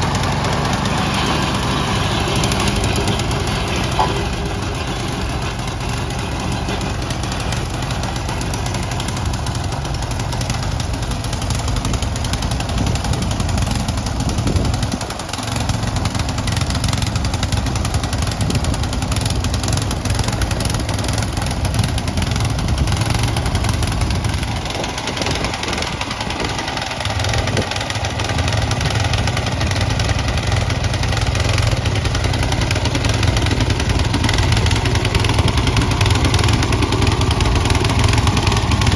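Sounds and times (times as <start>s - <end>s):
snow blower engine running: 0.0s - 38.9s.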